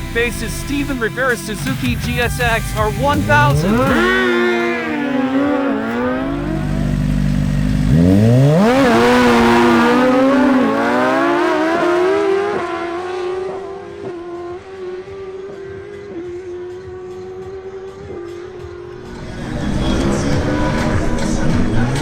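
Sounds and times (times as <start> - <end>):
sportbike engines revving: 0.0 - 22.0.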